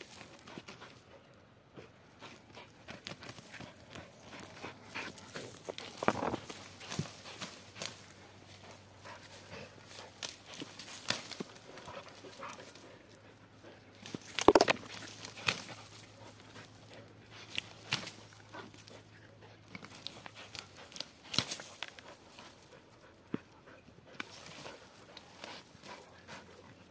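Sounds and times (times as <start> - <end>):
dog snuffling and scratching: 1.8 - 26.9.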